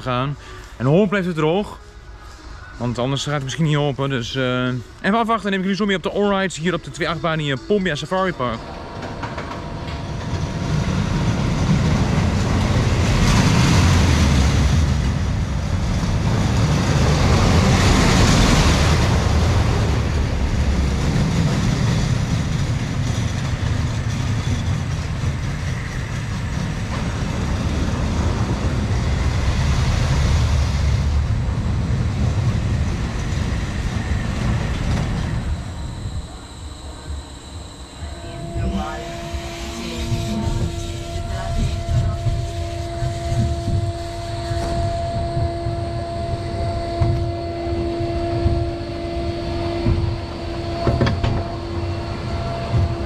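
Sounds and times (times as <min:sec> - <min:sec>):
roller coaster wheel rumble: 0:02.7 - 0:53.0.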